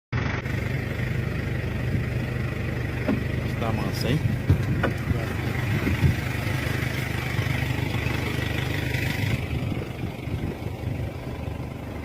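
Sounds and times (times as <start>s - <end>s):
vehicle engine idling: 0.1s - 12.0s.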